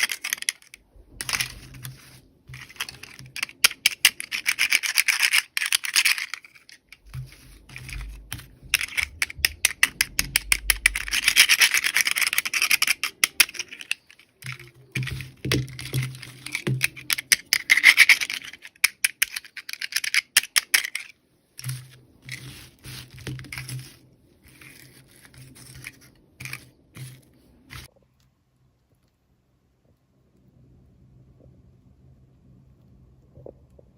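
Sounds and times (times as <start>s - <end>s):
toy packaging crinkling: 0.0s - 27.9s.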